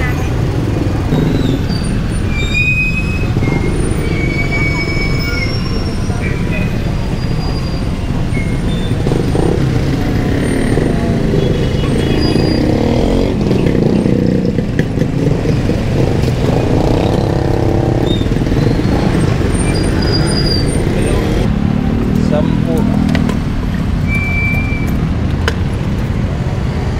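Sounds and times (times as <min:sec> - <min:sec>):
street traffic engines: 0:00.0 - 0:26.9.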